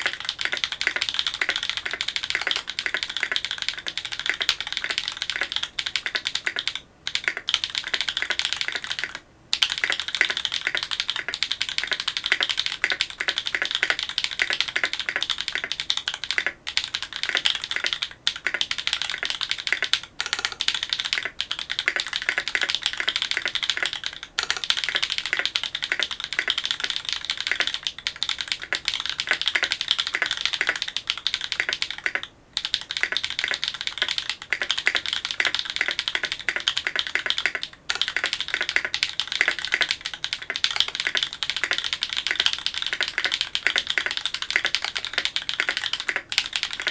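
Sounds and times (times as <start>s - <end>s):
mechanical keyboard typing: 0.0s - 46.9s.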